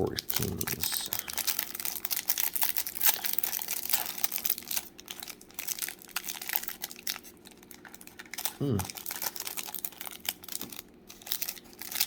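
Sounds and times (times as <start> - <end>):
plastic wrapper crinkling: 0.1 - 12.0.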